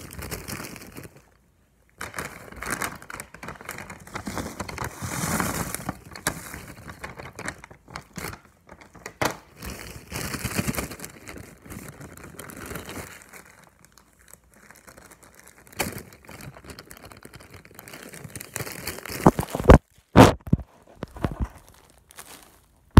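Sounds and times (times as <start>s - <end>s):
plastic bag crinkling: 0.0s - 20.2s, 21.0s - 22.9s.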